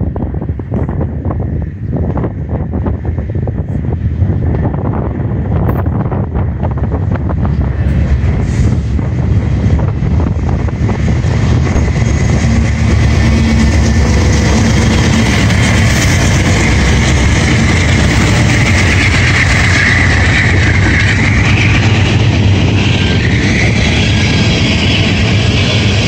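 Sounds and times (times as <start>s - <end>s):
diesel locomotives passing: 0.0s - 26.0s
rumble of freight cars rolling: 0.0s - 26.0s.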